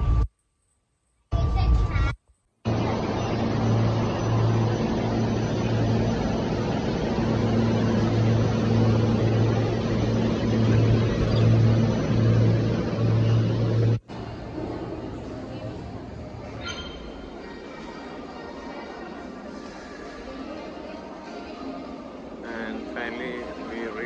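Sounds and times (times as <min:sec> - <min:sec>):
electric train rumbling: 0:02.7 - 0:24.0.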